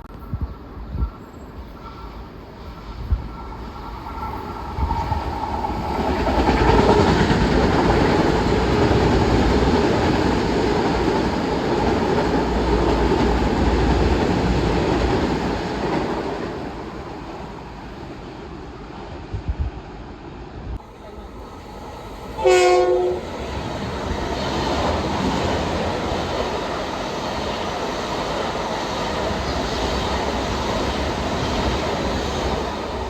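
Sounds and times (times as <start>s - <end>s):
train rumbling past on tracks: 0.1s - 33.0s.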